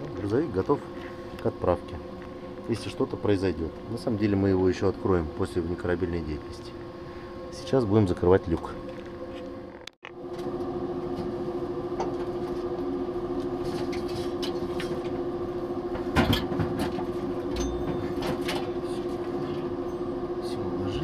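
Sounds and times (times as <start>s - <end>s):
constant tone: 0.0s - 21.0s
ventilation fans humming: 0.0s - 21.0s.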